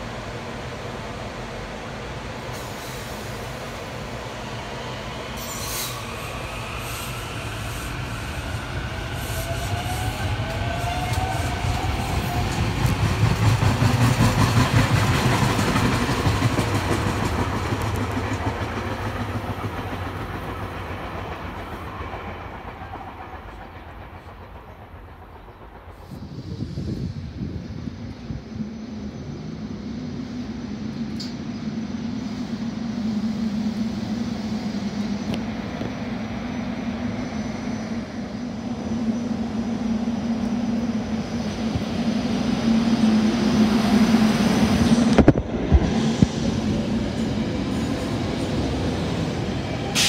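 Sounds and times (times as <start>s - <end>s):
electric train running on rails: 0.0s - 50.0s.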